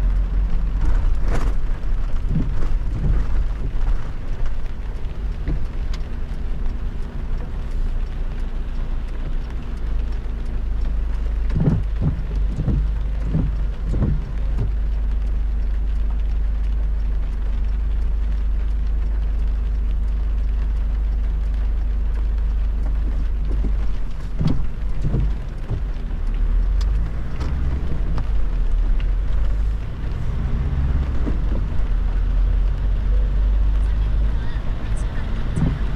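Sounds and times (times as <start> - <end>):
rain hissing: 0.0 - 35.9
road and tyre noise: 0.0 - 35.9.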